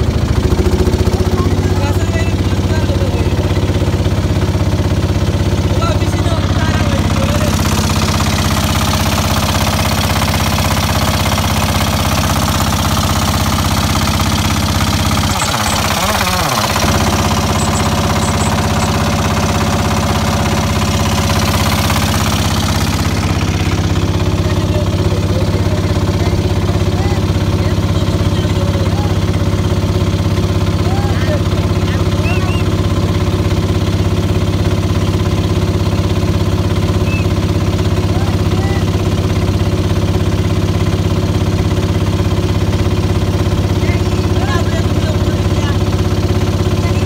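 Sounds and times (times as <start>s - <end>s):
motorboat engine knocking: 0.0s - 47.0s.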